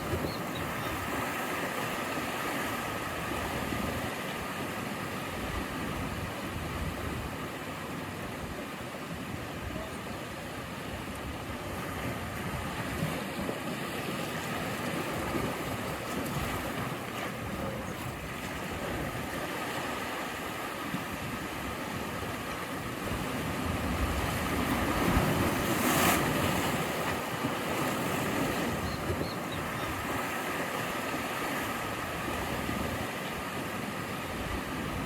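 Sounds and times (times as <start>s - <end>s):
ocean waves washing: 0.0s - 35.0s.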